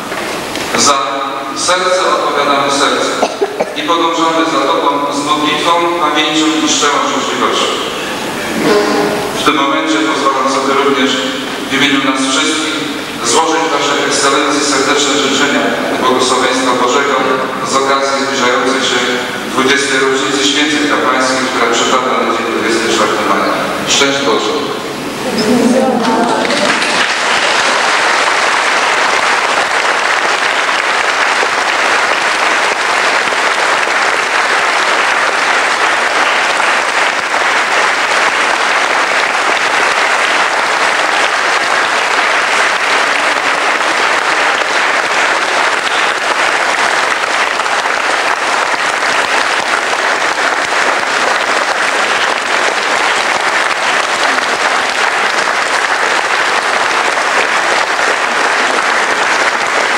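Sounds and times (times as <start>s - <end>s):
congregation applauding: 0.0s - 59.9s.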